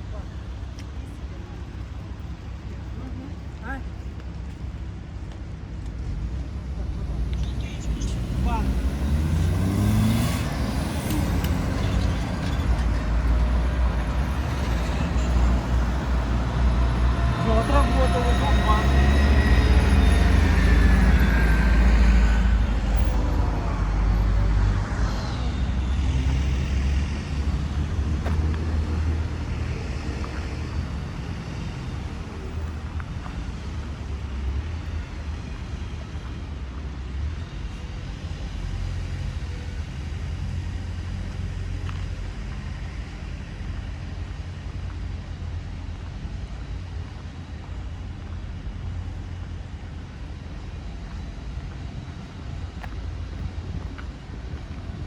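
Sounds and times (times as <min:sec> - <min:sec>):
vehicles passing with low rumble: 0:00.0 - 0:55.0.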